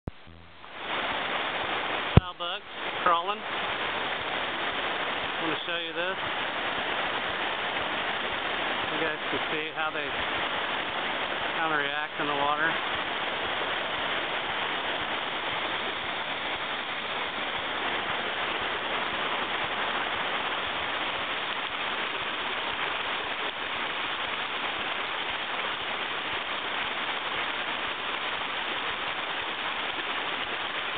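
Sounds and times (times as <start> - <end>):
steady rushing noise: 0.1 - 30.9.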